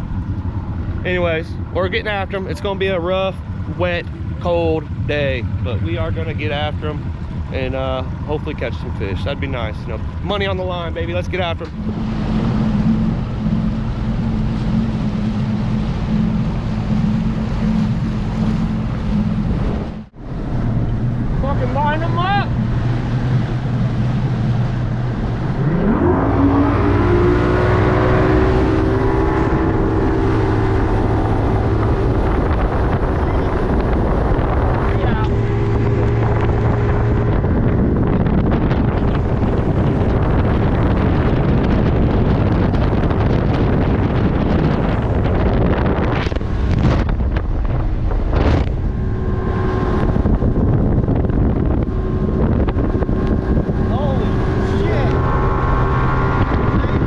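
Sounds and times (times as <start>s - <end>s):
outboard motor throttling up: 0.0s - 57.0s
wind buffeting microphone: 0.0s - 57.0s.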